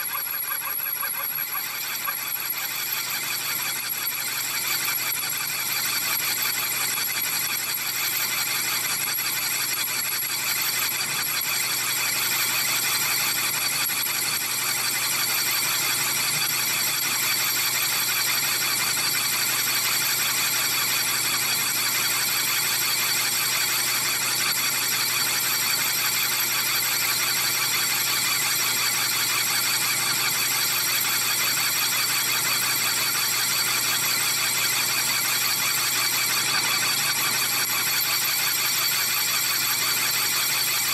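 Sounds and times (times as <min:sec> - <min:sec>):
lathe cutting high-pitched whine: 0:00.0 - 0:40.9.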